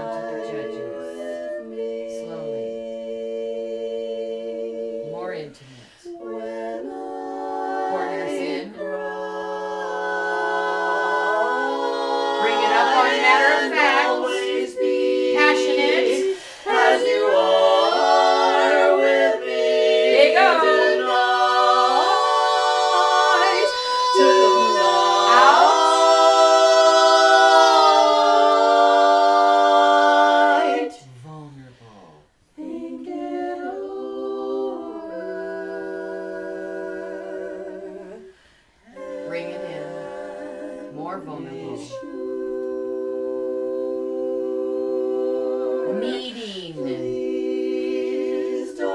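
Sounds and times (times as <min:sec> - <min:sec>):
women singing in harmony: 0:00.0 - 0:31.1, 0:32.5 - 0:48.9.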